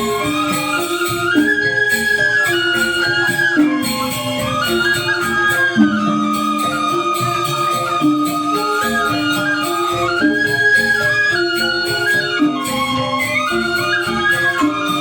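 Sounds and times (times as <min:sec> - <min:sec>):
gamelan ensemble playing: 0:00.0 - 0:15.0.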